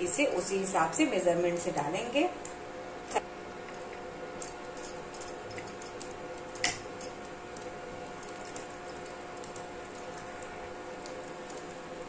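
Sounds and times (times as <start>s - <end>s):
induction cooktop humming: 0.0s - 12.0s.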